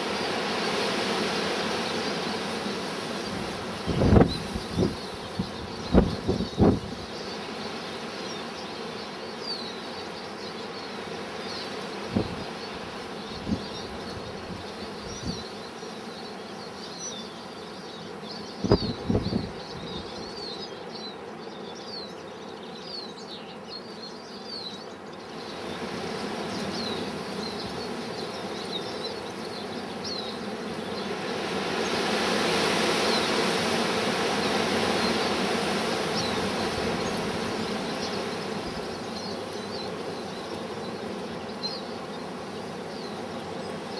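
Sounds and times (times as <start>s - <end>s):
small finches chirping: 3.0s - 25.8s, 26.4s - 32.0s, 36.0s - 43.9s.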